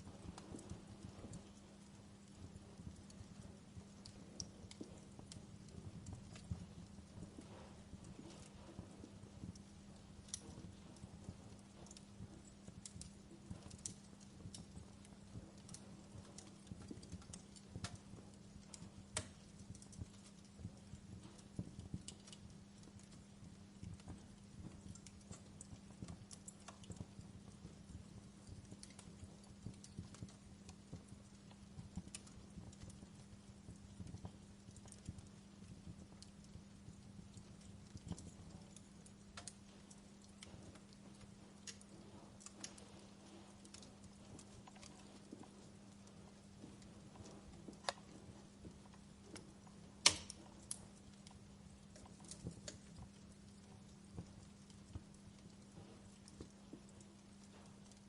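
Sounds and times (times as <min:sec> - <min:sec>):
pops and snaps of burning logs: 0:00.0 - 0:58.0
steady low hum: 0:00.0 - 0:58.0
wood fire crackling: 0:00.0 - 0:58.0.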